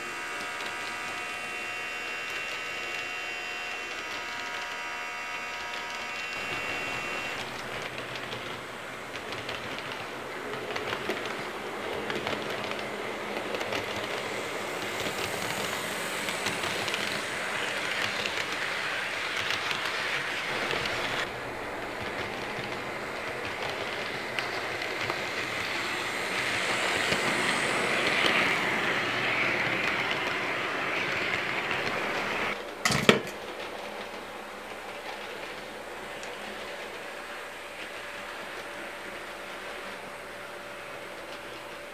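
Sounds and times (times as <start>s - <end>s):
model train whirring rattle: 0.0s - 41.9s.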